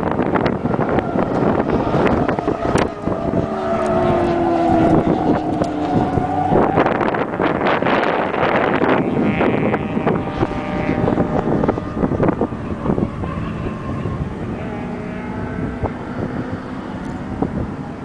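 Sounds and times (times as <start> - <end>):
car engine at high revs: 0.0 - 18.0
wind buffeting microphone: 0.0 - 18.0.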